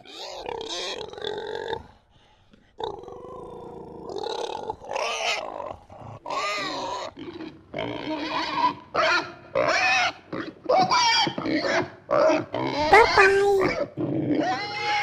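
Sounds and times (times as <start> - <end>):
pigs grunting and squealing: 0.0 - 2.0, 2.8 - 15.0.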